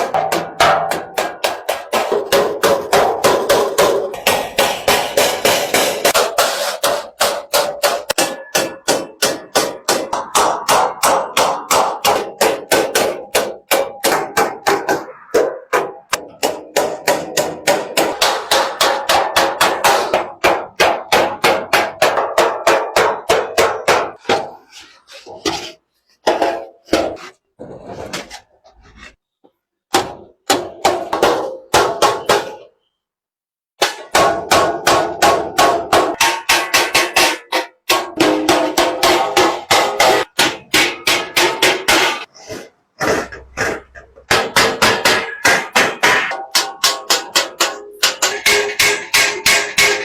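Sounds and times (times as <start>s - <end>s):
hammer striking sheet iron: 0.0s - 27.4s, 33.8s - 42.3s, 43.0s - 50.0s.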